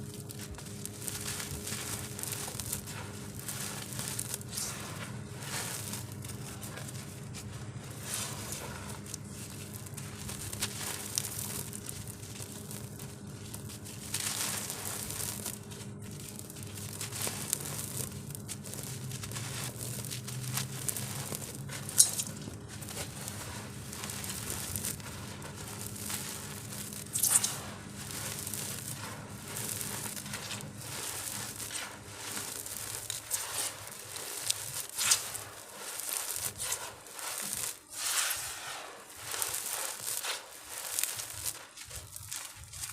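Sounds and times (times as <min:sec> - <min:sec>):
dry crumble being crushed: 0:00.0 - 0:42.9.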